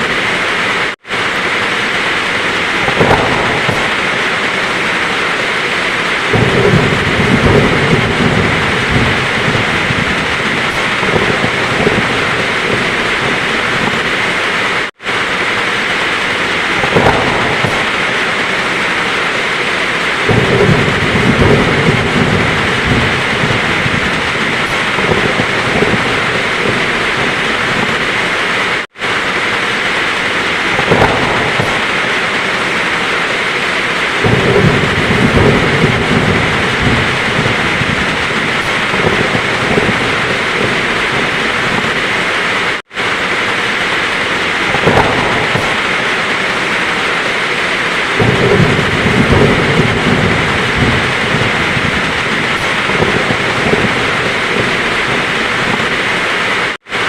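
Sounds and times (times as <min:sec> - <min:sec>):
heavy rain: 0:00.0 - 0:57.0
low thunder rumbling: 0:00.0 - 0:57.0.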